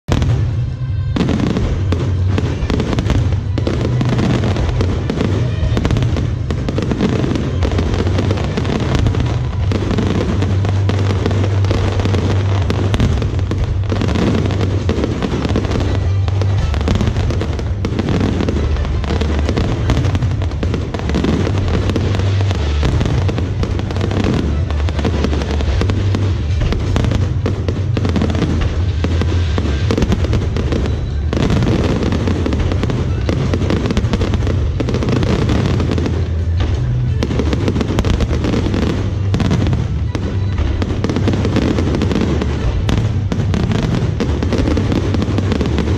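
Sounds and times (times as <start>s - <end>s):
fireworks bangs and crackles: 0.0s - 45.9s
music playing: 0.1s - 45.9s.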